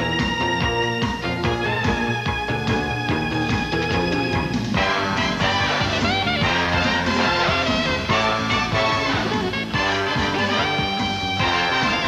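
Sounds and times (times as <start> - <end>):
theme music with steady beat: 0.0 - 12.0.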